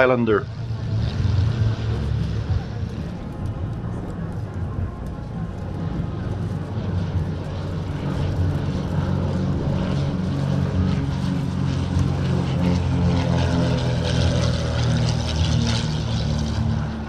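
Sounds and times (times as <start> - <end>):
propeller aircraft droning: 0.0 - 17.0.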